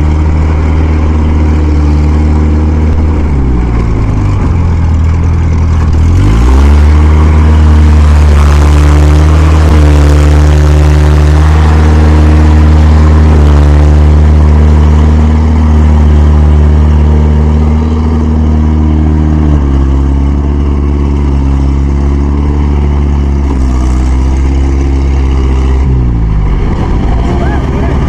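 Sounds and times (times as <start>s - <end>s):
farm machine engine running: 0.0s - 28.0s.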